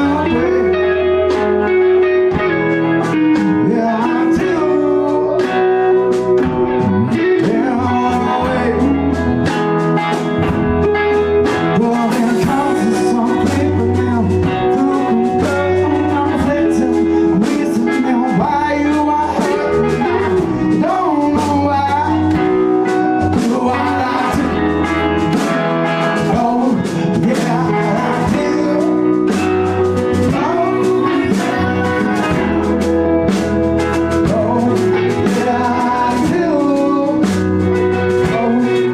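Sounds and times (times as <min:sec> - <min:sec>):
bass guitar: 0:00.0 - 0:38.9
drums: 0:00.0 - 0:38.9
electric guitar: 0:00.0 - 0:38.9
person singing: 0:00.0 - 0:38.9.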